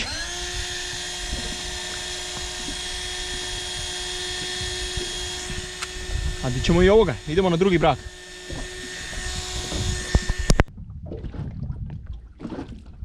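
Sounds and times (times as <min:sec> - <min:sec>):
electric reel motor whine: 0:00.0 - 0:10.7.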